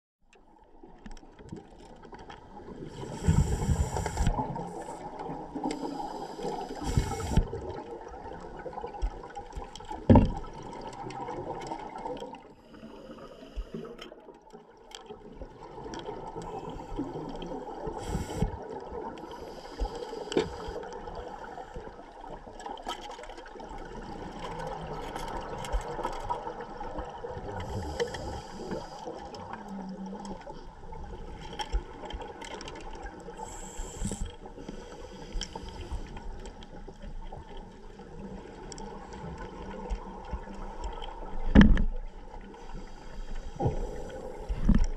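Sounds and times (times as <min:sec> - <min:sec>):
underwater rushing noise: 0:00.8 - 0:44.9.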